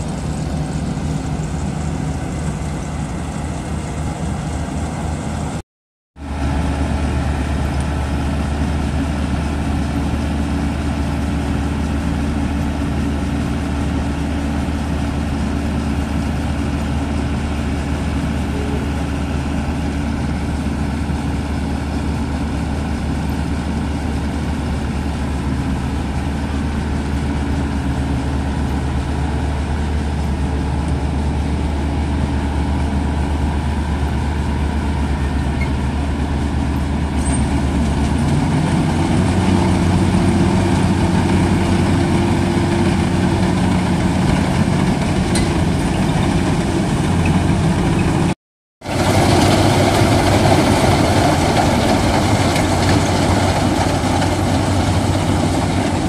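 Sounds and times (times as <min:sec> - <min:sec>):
diesel engine running and revving: 0:00.0 - 0:05.6, 0:06.2 - 0:56.0.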